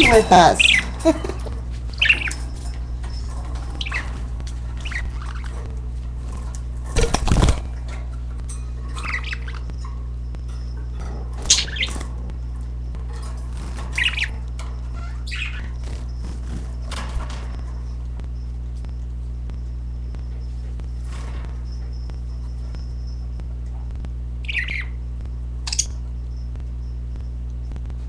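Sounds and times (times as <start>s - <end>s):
budgerigars chirping and squawking: 0.0s - 18.5s, 20.2s - 23.8s, 24.4s - 25.0s, 25.6s - 26.9s
steady low hum: 0.0s - 28.0s.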